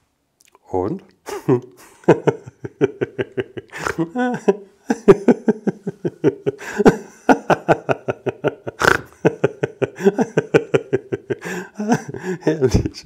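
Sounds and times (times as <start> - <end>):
man laughing in bursts: 1.3 - 13.0.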